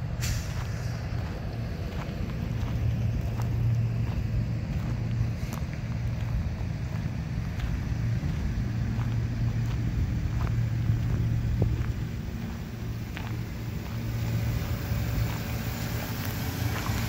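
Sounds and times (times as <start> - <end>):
footsteps on gravel: 0.0 - 17.0
pickup engine idling: 0.0 - 17.0.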